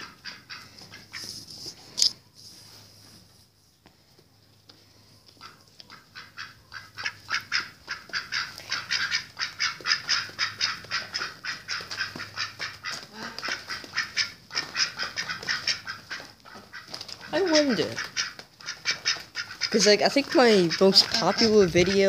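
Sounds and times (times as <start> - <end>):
duck quacking: 0.0 - 1.3, 5.4 - 22.0.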